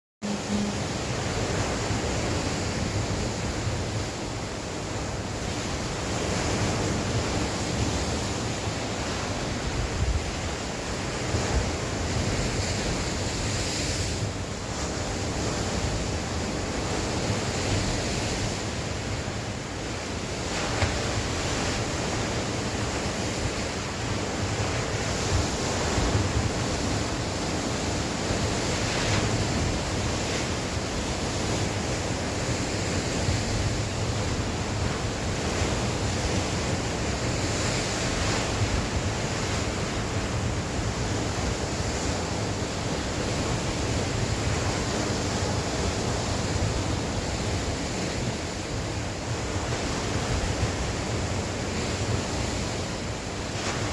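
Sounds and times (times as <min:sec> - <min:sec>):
waves breaking on shore: 0:00.2 - 0:53.9.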